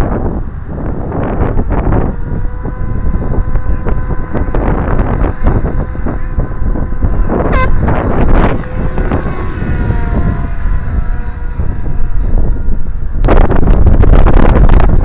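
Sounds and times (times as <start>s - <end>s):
model helicopter rotors whining: 0.0s - 15.0s
wind noise on microphone: 0.0s - 15.0s.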